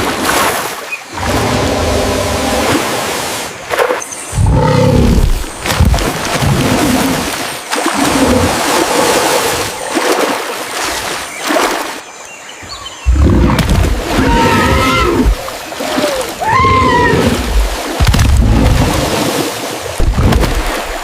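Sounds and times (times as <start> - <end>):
water splashing: 0.0 - 4.4, 5.1 - 12.2, 13.1 - 21.0.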